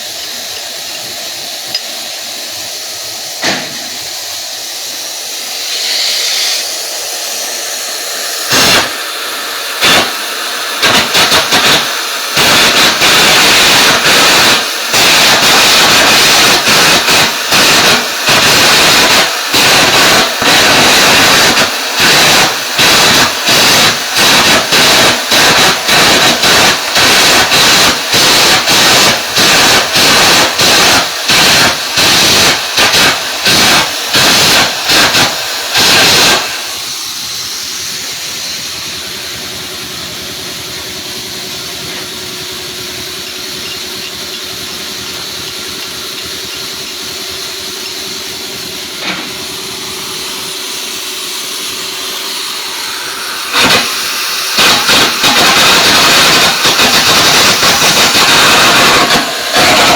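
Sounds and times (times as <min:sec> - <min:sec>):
welding hissing sizzle: 0:00.0 - 0:59.9
arc welding crackle: 0:07.8 - 0:39.8, 0:41.4 - 0:59.9.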